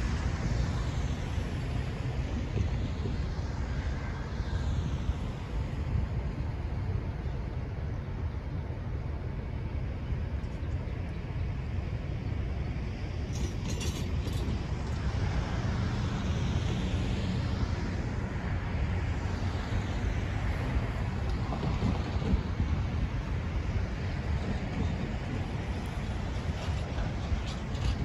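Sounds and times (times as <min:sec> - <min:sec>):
locomotive engines rumbling: 0:00.0 - 0:28.0.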